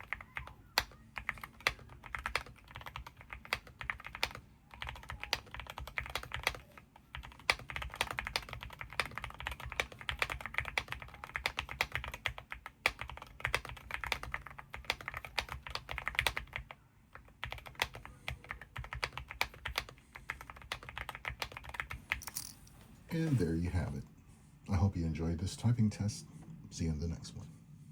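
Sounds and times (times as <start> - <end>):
fast typing on mechanical keyboard: 0.0 - 22.4.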